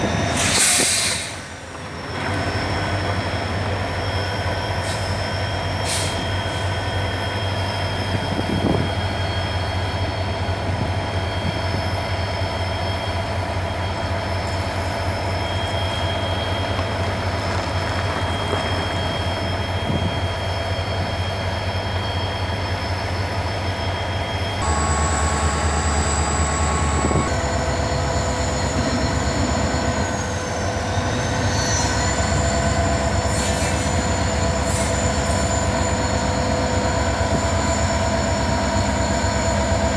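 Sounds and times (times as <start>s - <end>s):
diesel locomotives droning: 0.0s - 39.9s
wheels squealing on rails: 0.0s - 39.9s.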